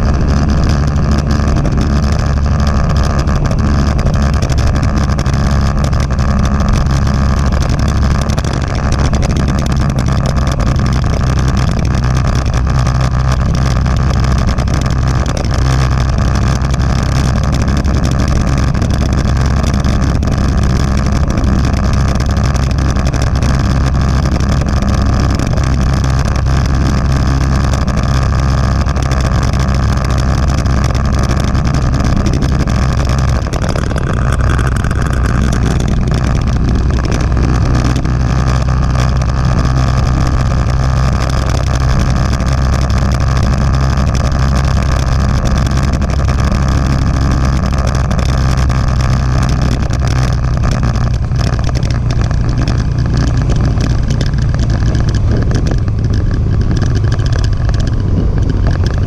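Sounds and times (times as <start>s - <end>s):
motorcycle engine running: 0.0s - 59.0s
wind and road rush: 0.0s - 59.0s.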